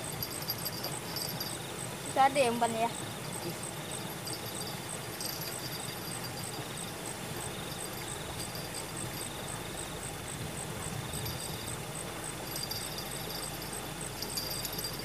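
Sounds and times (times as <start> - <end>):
crickets chirping: 0.0 - 15.0
flowing water: 0.0 - 15.0
insect trilling: 0.0 - 15.0.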